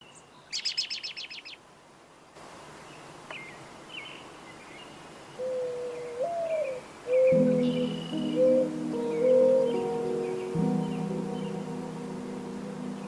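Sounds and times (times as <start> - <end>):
bird chirping: 0.0 - 1.6, 2.9 - 13.0
steady hiss: 1.2 - 13.0.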